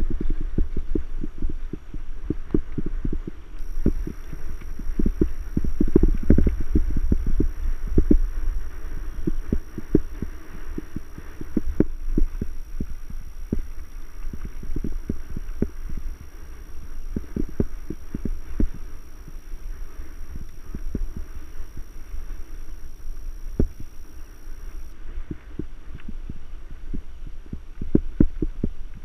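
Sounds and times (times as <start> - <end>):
low rumble: 0.0 - 29.0.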